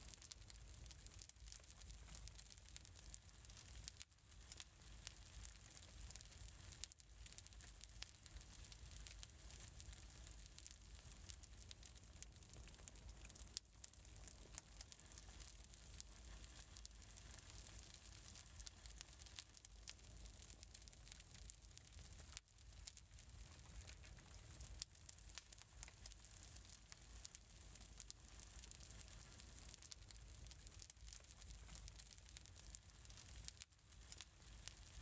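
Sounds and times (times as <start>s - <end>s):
wood fire crackling faintly: 0.0s - 35.0s.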